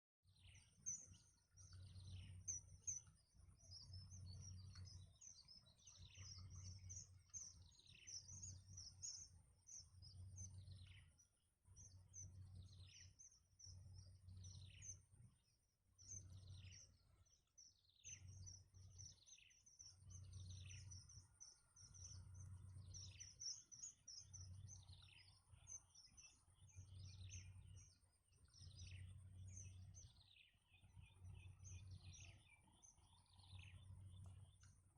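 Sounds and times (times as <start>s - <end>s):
soft low throb: 0.5s - 34.9s.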